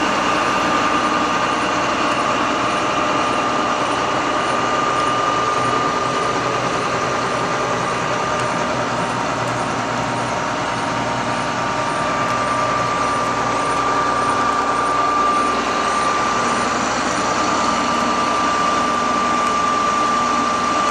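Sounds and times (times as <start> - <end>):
vehicle high whine: 0.0 - 20.9.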